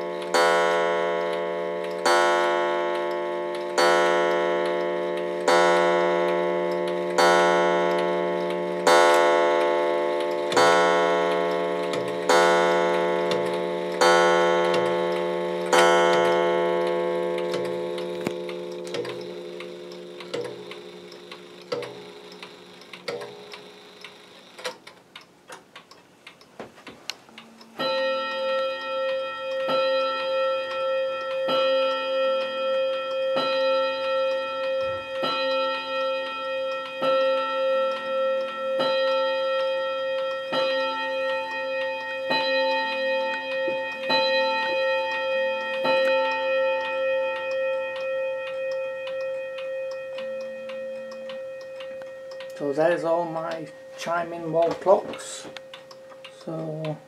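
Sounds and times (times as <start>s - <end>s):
clock bell striking: 0.0s - 24.5s, 27.8s - 56.6s
clock ticking: 0.0s - 57.0s.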